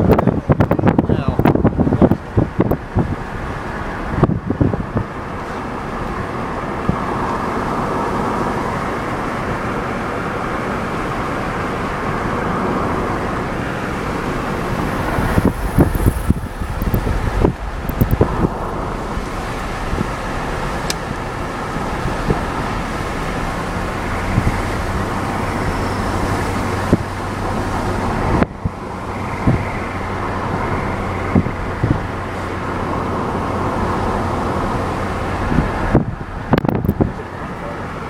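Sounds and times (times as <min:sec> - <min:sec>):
car road and engine rumble: 0:00.0 - 0:38.0.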